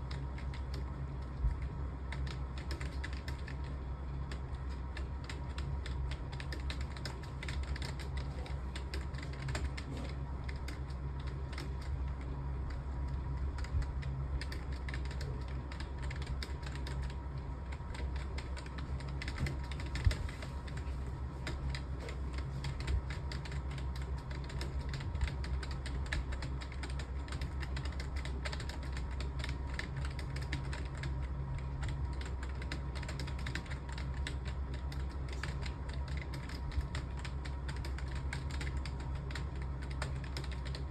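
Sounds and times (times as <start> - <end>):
steady low hum: 0.0 - 40.9
typing on a computer keyboard: 0.0 - 40.9.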